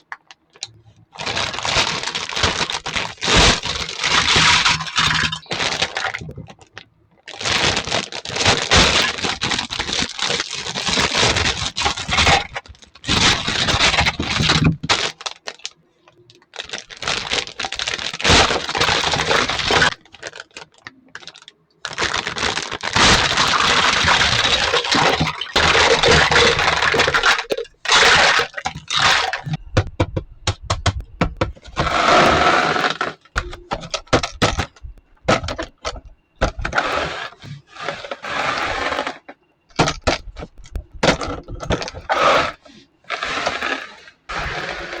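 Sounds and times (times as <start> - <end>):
plastic packaging crinkling: 0.0 - 45.0.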